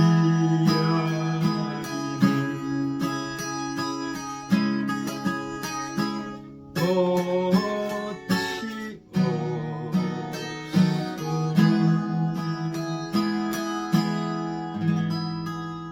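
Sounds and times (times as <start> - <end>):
acoustic guitar strumming chords: 0.0 - 15.9.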